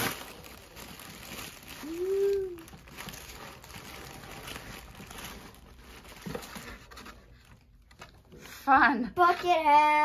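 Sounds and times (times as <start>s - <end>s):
tissue paper rustling: 0.0s - 8.8s.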